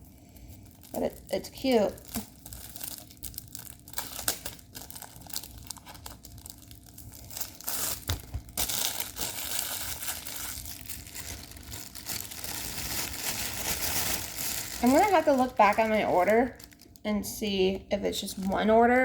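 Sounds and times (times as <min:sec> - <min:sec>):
packaging crinkling and rustling: 0:00.1 - 0:17.1.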